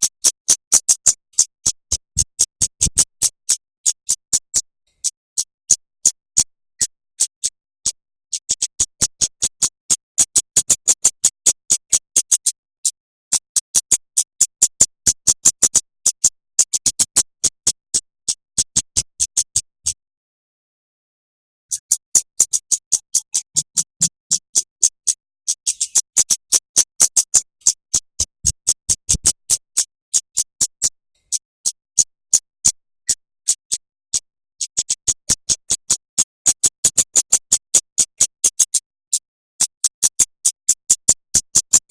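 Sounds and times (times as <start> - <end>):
songbird rapid clicking chip notes: 0.0 - 20.0, 21.7 - 38.9, 39.6 - 41.9.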